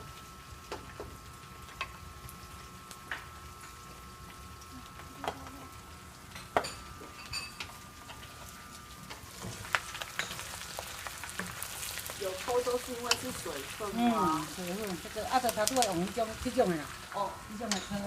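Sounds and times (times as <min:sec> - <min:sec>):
pork frying in a pan: 0:00.0 - 0:18.0.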